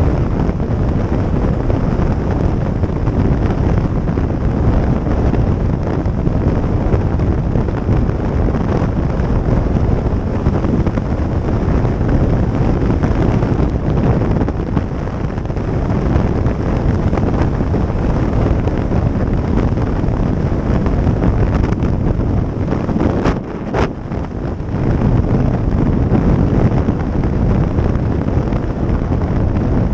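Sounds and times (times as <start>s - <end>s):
road noise: 0.0s - 29.9s
wind buffeting microphone: 0.0s - 29.9s.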